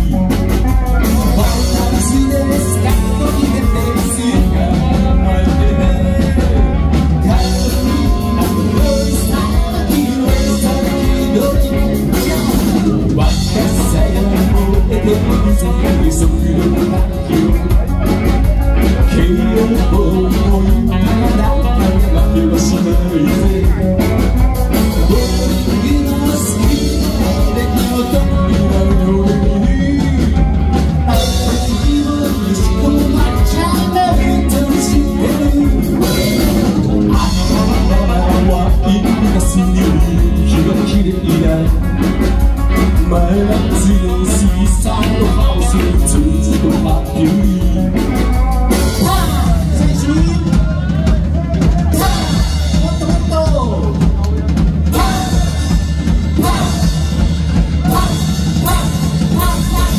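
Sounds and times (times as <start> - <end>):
drum kit: 0.0 - 59.9
electric bass: 0.0 - 59.9
electric guitar: 0.0 - 59.9
man singing into a microphone: 0.0 - 59.9.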